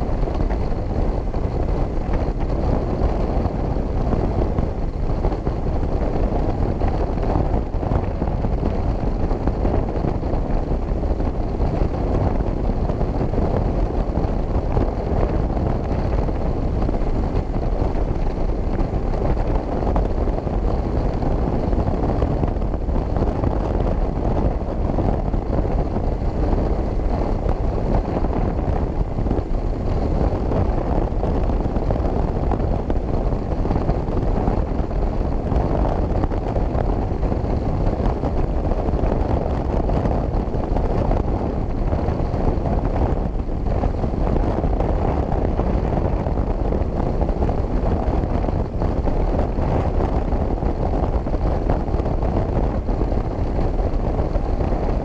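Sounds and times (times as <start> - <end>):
motorcycle engine and tyre noise: 0.0 - 55.0
wind rushing over microphone: 0.0 - 55.0.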